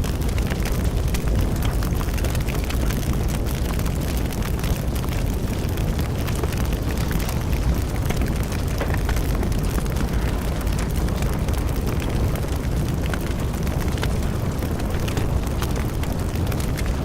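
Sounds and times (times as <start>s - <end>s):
bonfire flames rumbling: 0.0s - 17.0s
burning wood crackling and popping: 0.0s - 17.0s.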